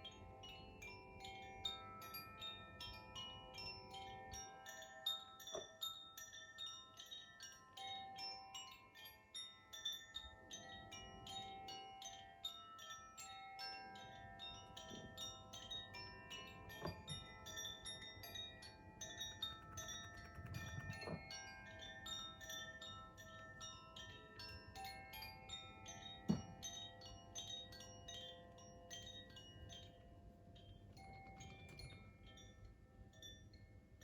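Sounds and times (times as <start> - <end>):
wind chime ringing: 0.0 - 34.0.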